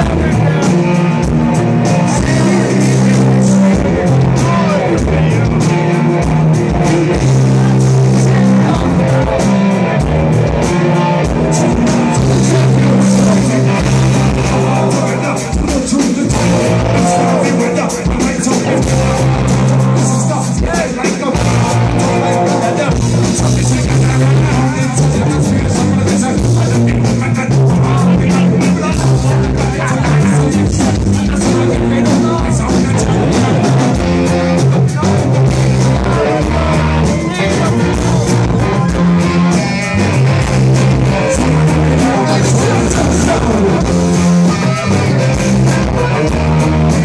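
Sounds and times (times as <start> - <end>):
bass guitar: 0.0 - 47.0
drum kit beat: 0.0 - 47.0
electric guitars: 0.0 - 47.0
person singing: 0.0 - 47.0.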